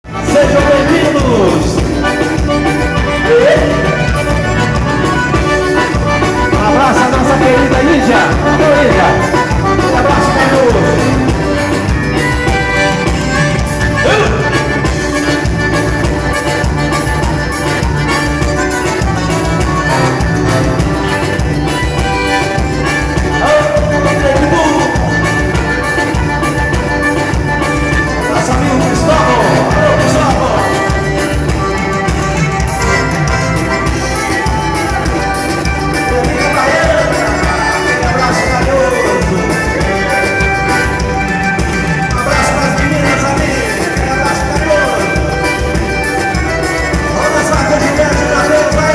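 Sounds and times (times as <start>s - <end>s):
band playing latin dance music: 0.0s - 48.9s.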